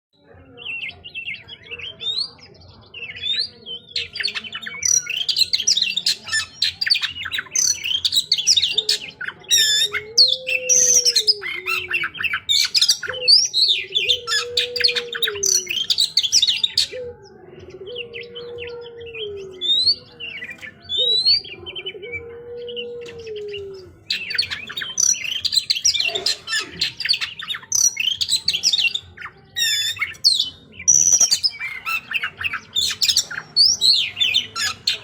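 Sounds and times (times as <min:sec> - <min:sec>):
bird singing chirps and trills: 0:00.2 - 0:35.0.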